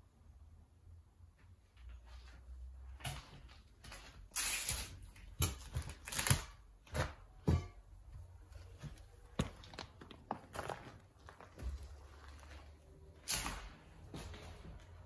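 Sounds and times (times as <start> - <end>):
footsteps crunching over debris: 2.2 - 15.0.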